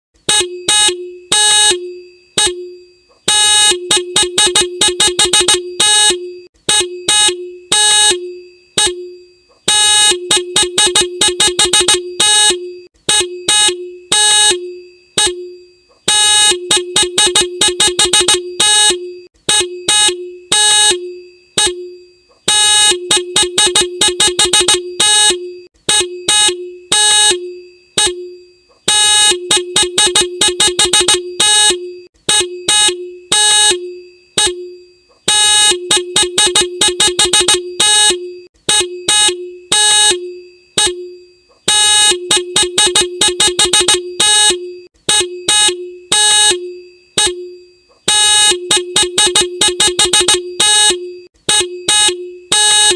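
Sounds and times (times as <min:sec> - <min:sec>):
motorcycle horn honking: 0:00.3 - 0:09.1, 0:09.7 - 0:47.5, 0:48.1 - 0:52.9.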